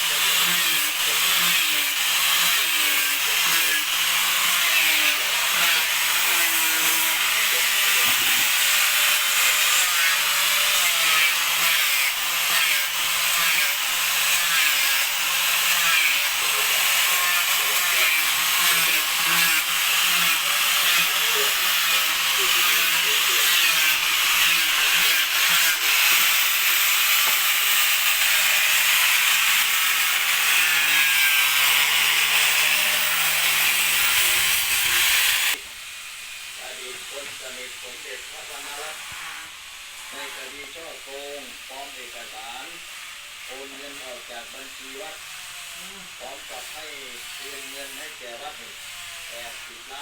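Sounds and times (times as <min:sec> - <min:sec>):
power tool grinding wood: 0:00.0 - 0:50.0.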